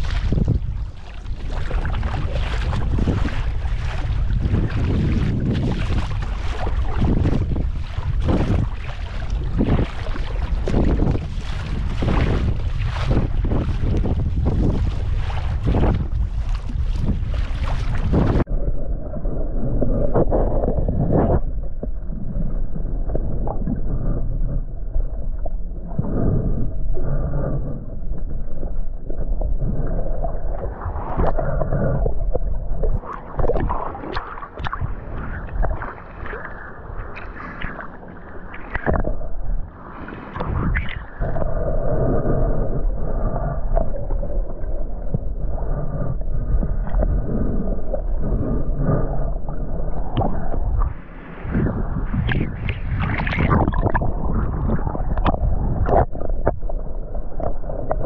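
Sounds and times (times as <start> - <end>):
water splashing: 0.0 - 26.3, 28.1 - 58.0
underwater water gurgling: 0.0 - 58.0.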